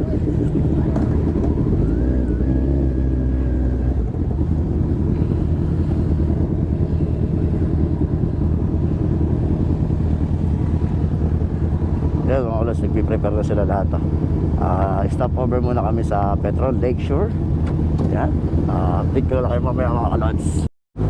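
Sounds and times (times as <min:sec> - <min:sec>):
motorcycle engines running: 0:00.0 - 0:20.7.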